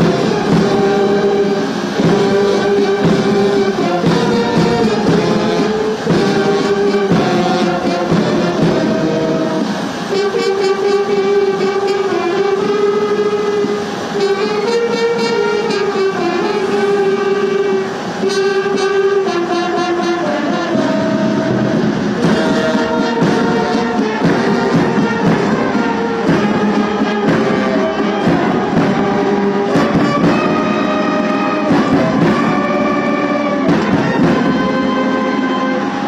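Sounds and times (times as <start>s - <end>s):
military brass band playing: 0.0s - 36.0s.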